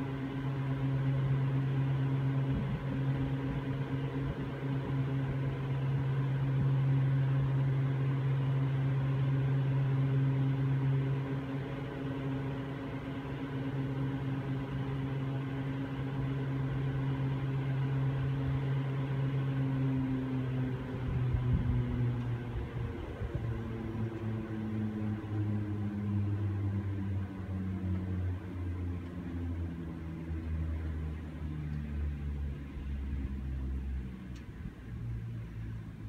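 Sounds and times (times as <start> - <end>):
low mechanical hum of ropeway machinery: 0.0 - 36.0.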